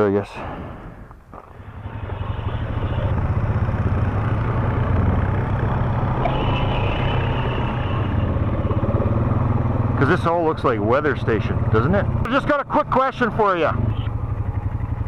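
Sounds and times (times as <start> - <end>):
quad bike engine running: 1.4 - 15.0.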